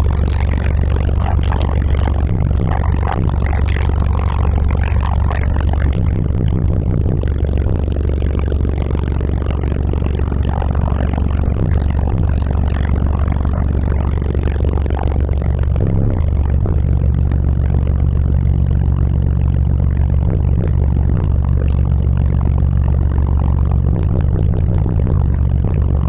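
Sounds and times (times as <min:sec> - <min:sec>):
bass-heavy song on subwoofers: 0:00.0 - 0:26.0.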